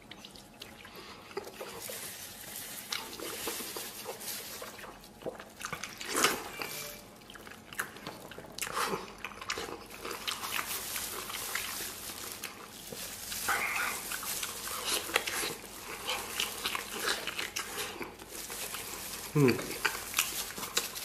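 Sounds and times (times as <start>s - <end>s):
wet chewing and lip-smacking: 0.0s - 19.0s, 19.8s - 21.0s.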